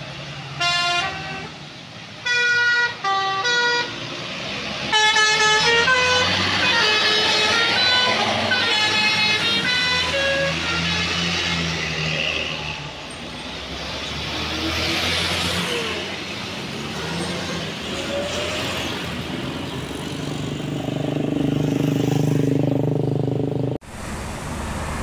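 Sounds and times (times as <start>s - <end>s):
diesel bus engine passing: 0.0s - 25.0s
rushing tyre and air noise: 3.8s - 23.2s, 23.8s - 25.0s.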